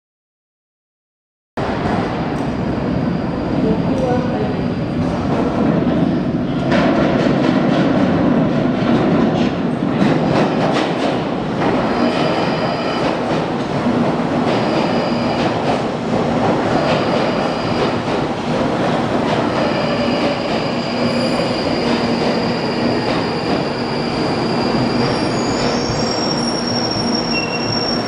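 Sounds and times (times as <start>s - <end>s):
train wheels rumbling on rails: 1.6s - 28.0s.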